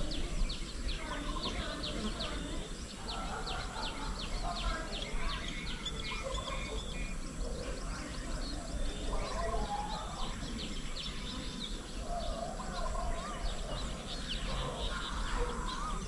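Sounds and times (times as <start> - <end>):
birds chirping: 0.0 - 16.0
birds warbling: 0.0 - 16.0.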